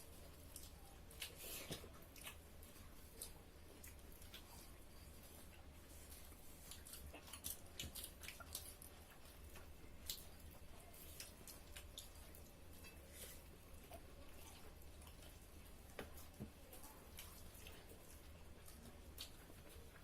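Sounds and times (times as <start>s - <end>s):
low steady hum: 0.0s - 20.0s
people chewing: 0.0s - 20.0s.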